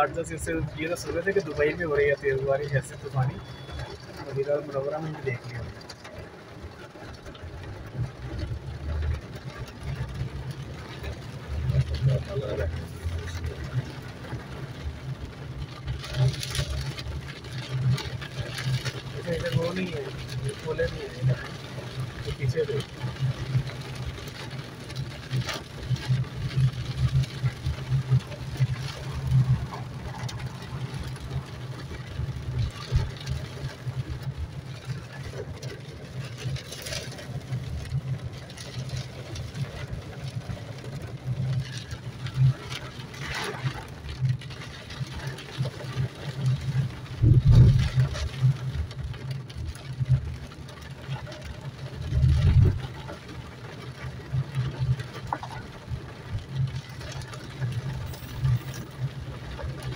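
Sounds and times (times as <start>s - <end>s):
engine and road rumble: 0.0s - 59.9s
rain on windshield: 0.0s - 59.9s.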